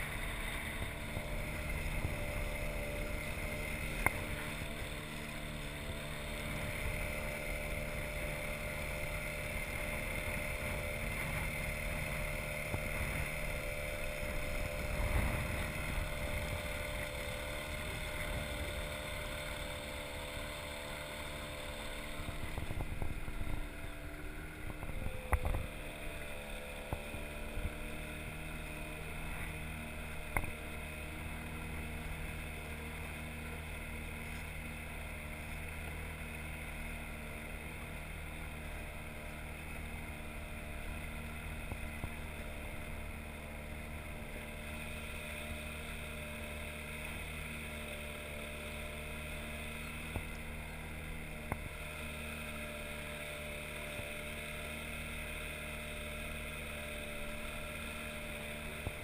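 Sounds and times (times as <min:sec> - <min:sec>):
outboard motor running: 0:00.0 - 0:59.0
water rushing along hull: 0:00.0 - 0:59.0.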